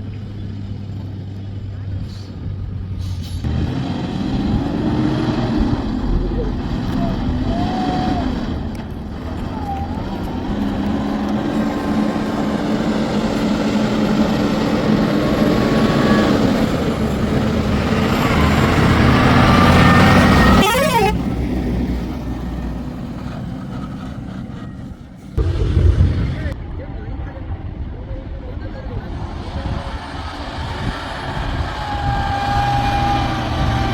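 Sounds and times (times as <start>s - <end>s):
heavy diesel engine under load: 0.0s - 26.7s, 27.6s - 33.9s.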